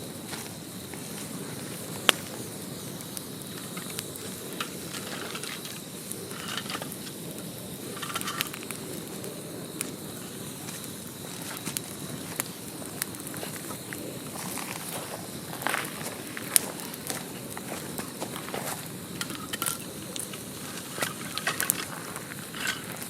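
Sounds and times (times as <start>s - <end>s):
campfire crackling and popping: 0.0s - 23.0s
low steady hiss: 0.0s - 23.0s.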